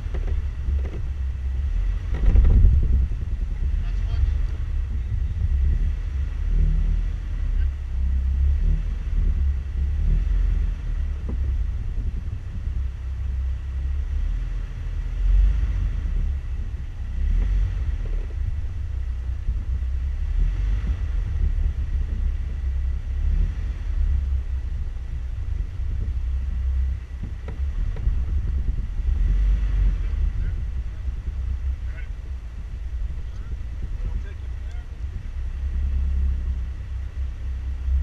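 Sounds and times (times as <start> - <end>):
engine running low: 0.0 - 38.0.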